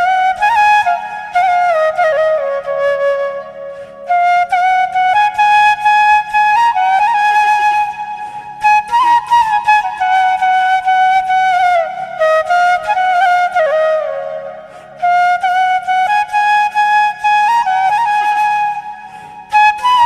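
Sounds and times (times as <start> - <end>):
flute playing slow melody: 0.0 - 20.0.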